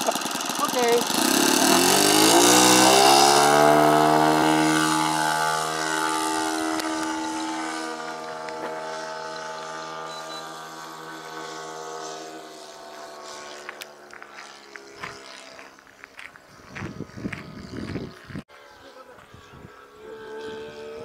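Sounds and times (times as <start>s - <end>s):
model plane engine at full throttle: 0.0s - 21.0s.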